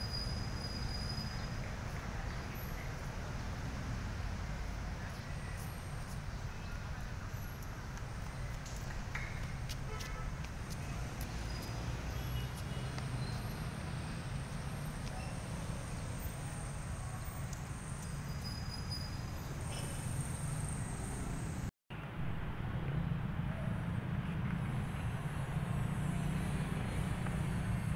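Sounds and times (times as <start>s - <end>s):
low rumble of vehicles: 0.0s - 27.9s.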